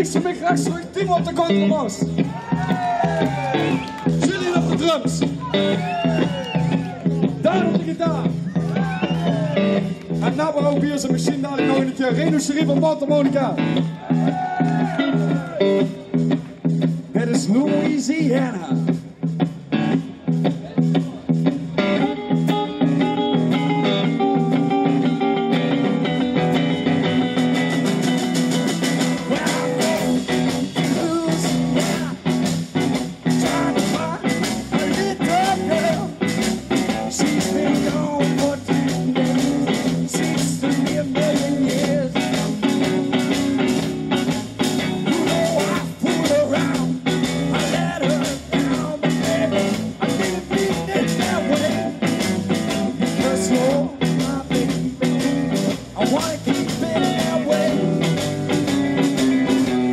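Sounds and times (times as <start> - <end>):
electric guitars: 0.0 - 59.9
steady drum beat: 0.0 - 59.9.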